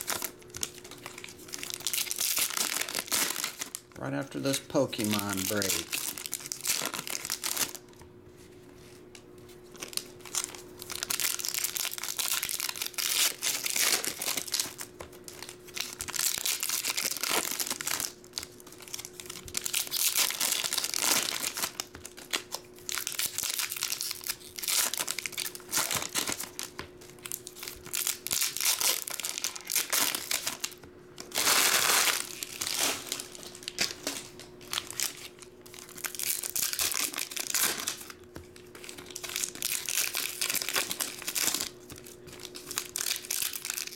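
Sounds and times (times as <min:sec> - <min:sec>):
foil wrappers crinkling and tearing: 0:00.0 - 0:08.0, 0:09.6 - 0:43.9
faint steady hum: 0:00.0 - 0:43.9.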